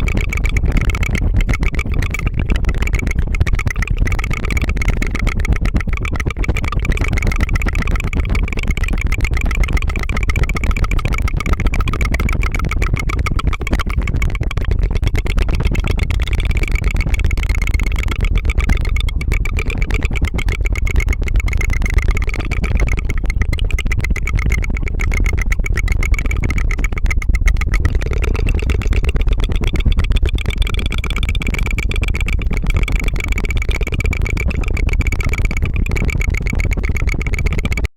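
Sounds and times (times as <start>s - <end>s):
tongue fluttering trill: 0.0s - 37.9s.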